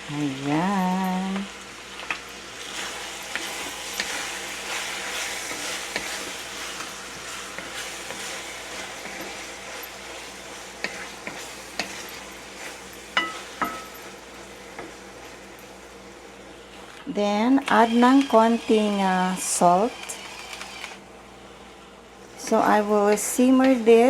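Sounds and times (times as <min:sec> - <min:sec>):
meat sizzling in a frying pan: 0:00.0 - 0:21.2.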